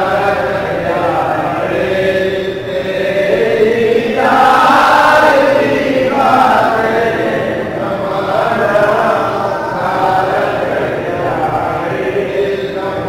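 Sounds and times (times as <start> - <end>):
men chanting in long notes: 0.0 - 13.0.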